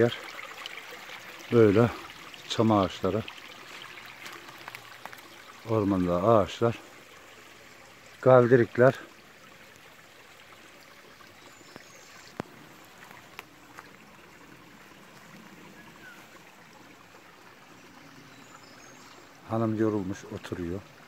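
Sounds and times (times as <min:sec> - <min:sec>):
stream trickling over rocks: 0:00.0 - 0:21.0.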